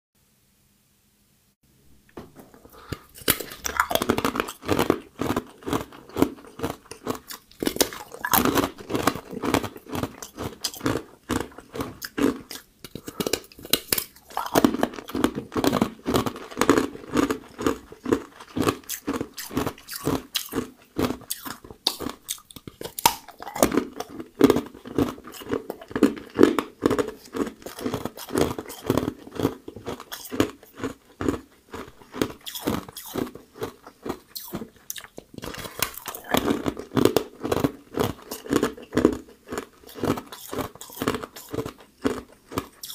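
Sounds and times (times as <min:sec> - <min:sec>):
ice cubes crunching: 0:02.2 - 0:42.9.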